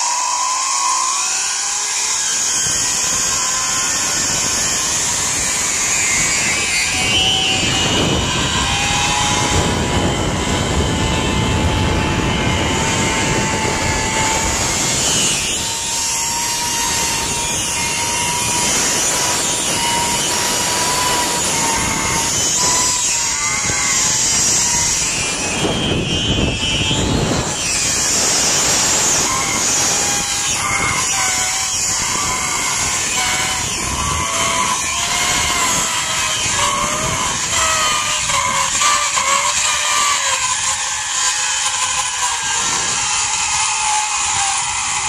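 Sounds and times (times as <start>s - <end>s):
wind rushing over microphone: 0.0s - 45.0s
zip-line pulleys whirring on cable: 0.0s - 45.0s.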